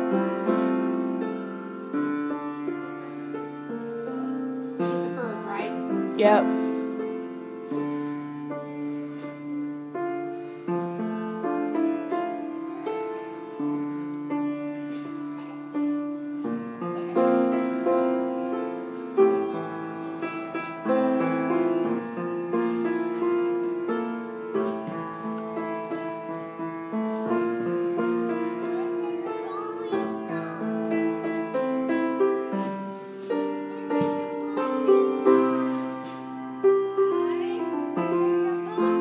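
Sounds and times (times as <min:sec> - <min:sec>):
grand piano slow chords: 0:00.0 - 0:39.0.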